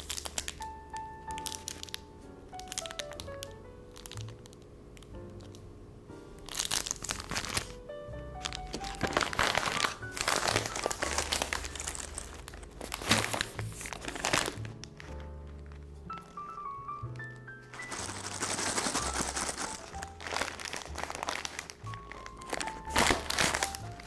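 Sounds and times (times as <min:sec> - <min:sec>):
plastic bags crinkling: 0:00.0 - 0:02.0, 0:02.6 - 0:04.6, 0:06.5 - 0:07.8, 0:08.4 - 0:24.0
soft background music: 0:00.0 - 0:24.0.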